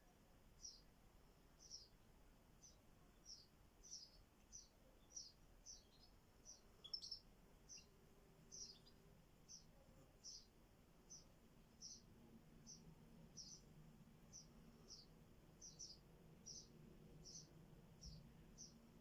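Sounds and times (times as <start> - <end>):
bird chirping: 0.6 - 0.9, 1.5 - 2.0, 2.6 - 18.9.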